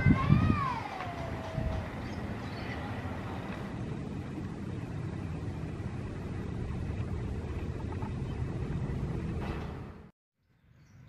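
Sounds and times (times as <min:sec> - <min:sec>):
motorcycle engines: 0:00.0 - 0:10.1
train rumbling along track: 0:00.0 - 0:10.1.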